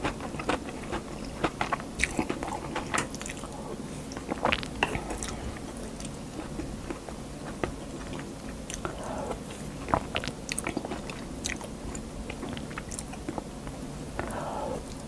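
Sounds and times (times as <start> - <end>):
person chewing and eating: 0.0 - 15.0.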